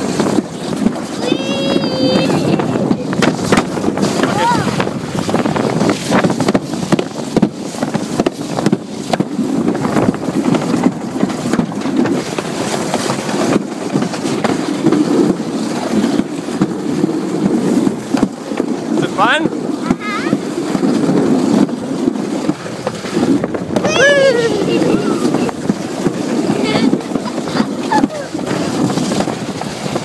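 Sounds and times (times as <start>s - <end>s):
sled rattling down track: 0.0s - 30.0s
wind buffeting microphone: 0.0s - 30.0s.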